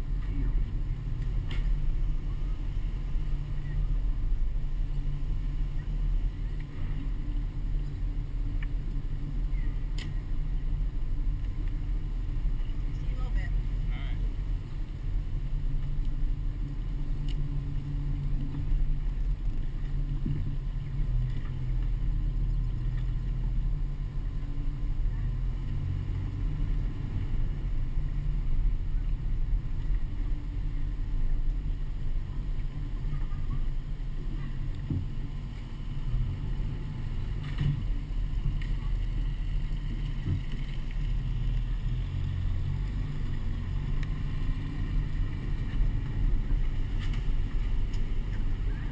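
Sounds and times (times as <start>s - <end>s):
truck engine and road rumble: 0.0s - 48.9s.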